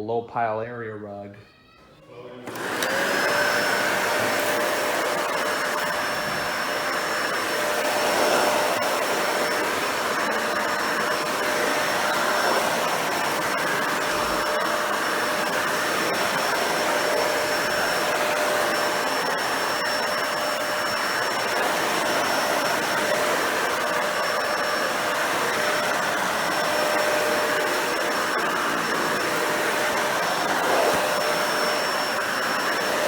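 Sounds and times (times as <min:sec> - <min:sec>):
upright vacuum running on rug: 0:02.4 - 0:33.0.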